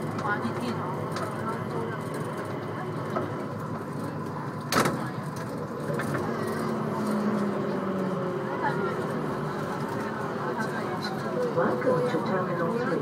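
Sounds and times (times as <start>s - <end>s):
people mover train rumbling: 0.0s - 13.0s.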